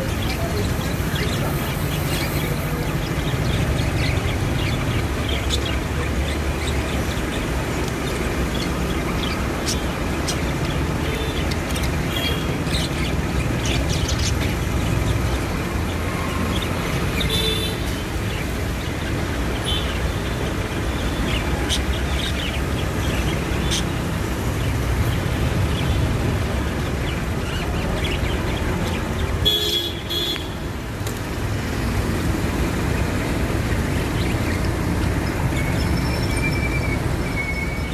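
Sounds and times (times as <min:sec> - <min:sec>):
street traffic rumble: 0:00.0 - 0:37.9.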